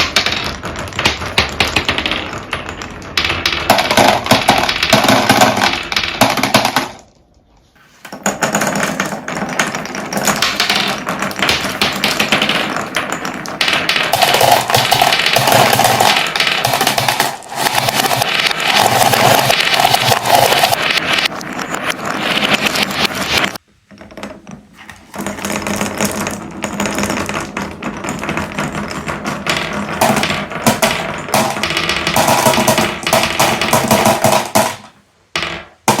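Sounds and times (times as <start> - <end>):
marbles rattling through wooden run: 0.0 - 7.2, 8.1 - 36.0.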